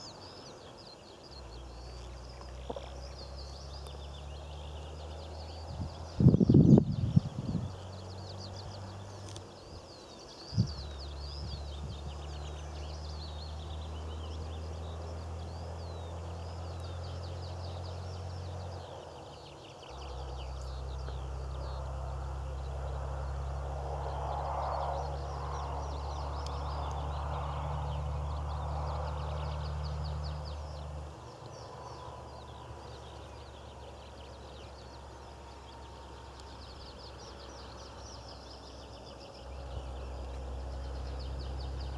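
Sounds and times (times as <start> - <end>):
small birds singing: 0.0 - 41.9.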